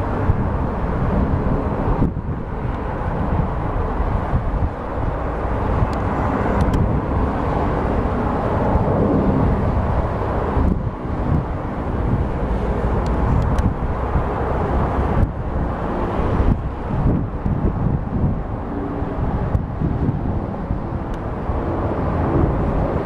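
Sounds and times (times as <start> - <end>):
jet airliner engines rumbling: 0.0 - 23.0.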